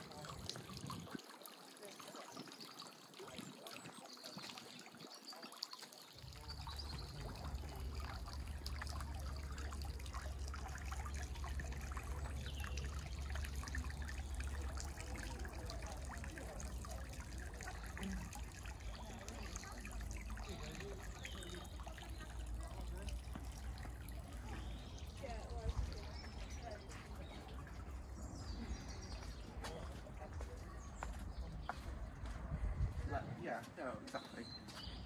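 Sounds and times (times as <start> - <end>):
water trickling: 0.0 - 32.4.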